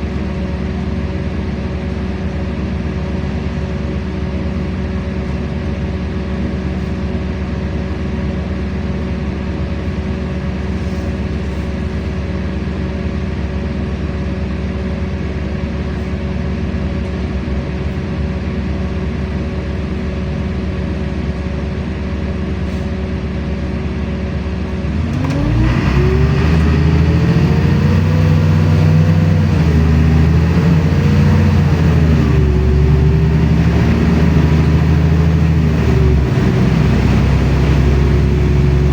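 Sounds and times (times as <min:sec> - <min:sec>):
bus engine idling and revving: 0:00.0 - 0:38.9.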